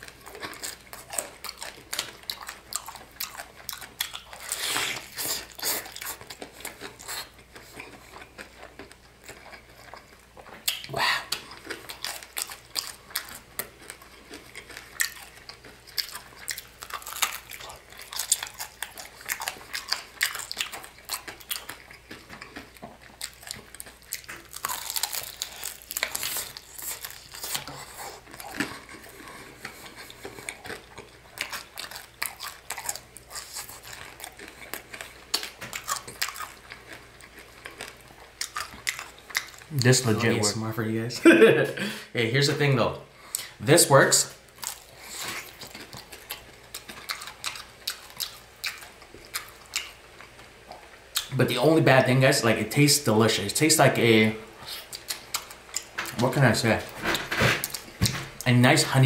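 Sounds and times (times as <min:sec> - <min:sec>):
crunching and chewing food: 0:00.0 - 0:40.7, 0:42.4 - 0:59.0.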